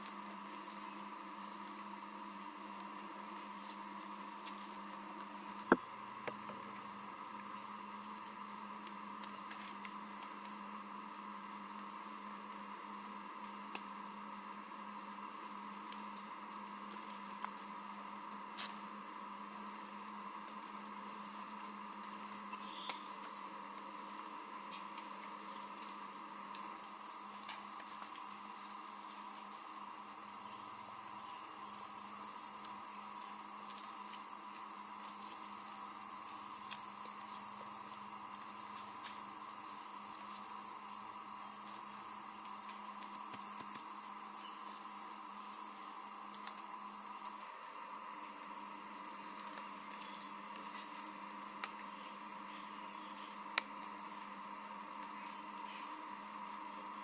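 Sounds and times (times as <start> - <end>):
jungle insects buzzing and chirring: 0.0 - 57.0.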